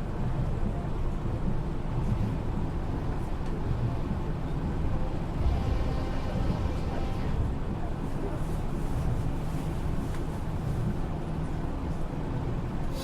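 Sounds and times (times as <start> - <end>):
monorail low rumble: 0.0 - 13.0.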